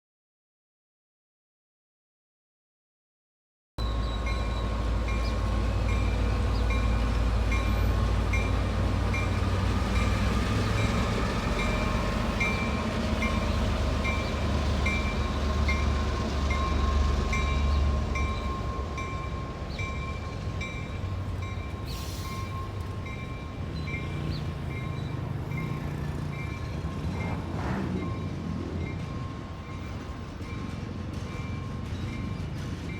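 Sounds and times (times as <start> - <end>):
freight train rumbling: 3.8 - 32.9.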